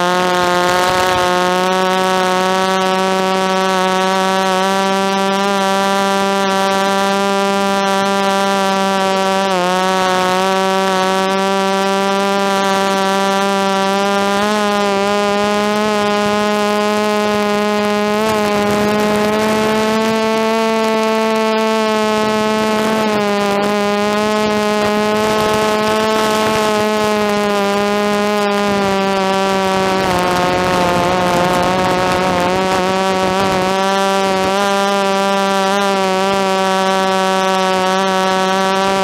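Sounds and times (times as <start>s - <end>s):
drone propellers whining: 0.0s - 39.0s.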